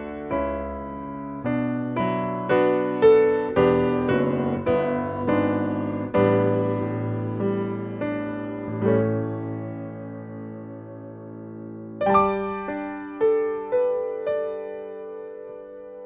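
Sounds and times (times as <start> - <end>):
slow solo piano chords: 0.0 - 16.0.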